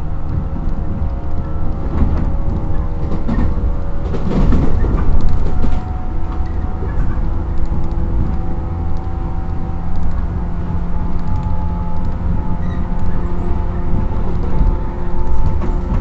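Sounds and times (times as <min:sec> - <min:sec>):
traction motor whine: 0:00.0 - 0:16.0
train wheels rumbling on rail: 0:00.0 - 0:16.0.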